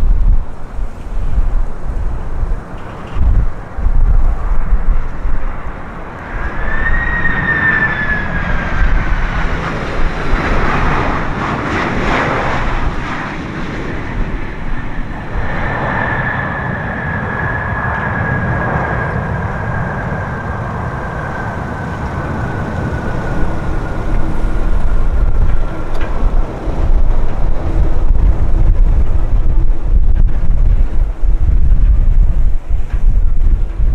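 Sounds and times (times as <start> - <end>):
jet engines whining: 0.0 - 33.9
low rumble: 0.0 - 33.9
wind buffeting microphone: 0.0 - 33.9.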